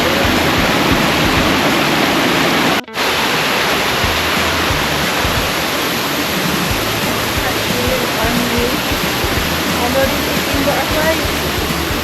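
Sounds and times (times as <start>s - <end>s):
waterfall water rushing: 0.0s - 12.0s.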